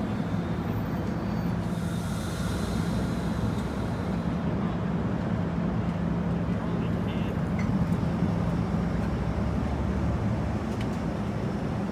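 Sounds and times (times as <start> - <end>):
train wheels rumbling on rail: 0.0 - 11.9.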